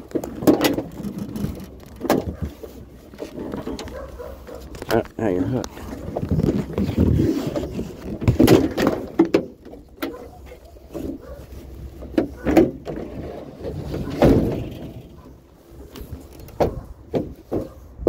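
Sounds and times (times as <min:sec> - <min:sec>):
knocks and clunks of items: 0:00.0 - 0:10.3, 0:12.0 - 0:15.3, 0:15.9 - 0:18.0
low uneven rumble: 0:00.0 - 0:18.0.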